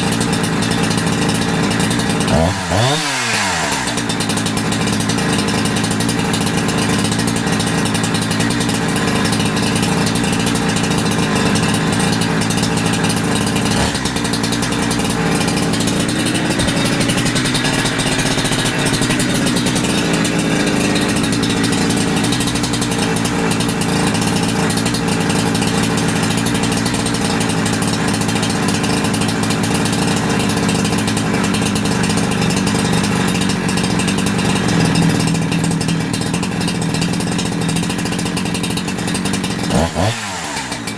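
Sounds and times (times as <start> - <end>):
chainsaw engine idling: 0.0 - 40.9.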